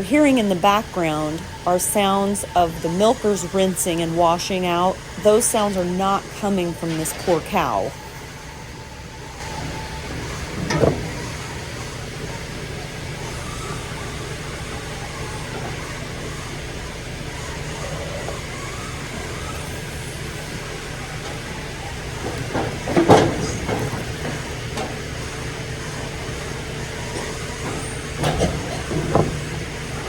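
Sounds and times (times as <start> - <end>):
milking equipment din: 0.0 - 30.0.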